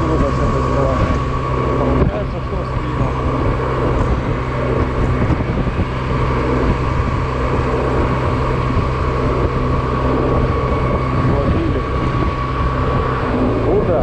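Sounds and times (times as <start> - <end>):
scooter engine cruising: 0.0 - 14.0
wind on microphone: 0.0 - 14.0.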